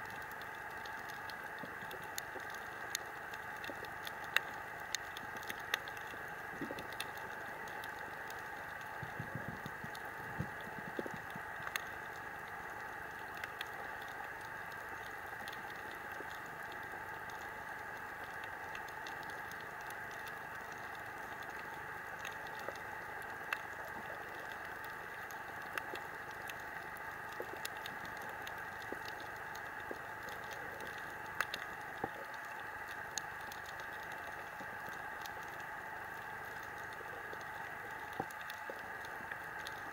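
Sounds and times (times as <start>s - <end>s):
snapping shrimp crackle: 0.0s - 39.9s
steady underwater hiss: 0.0s - 39.9s.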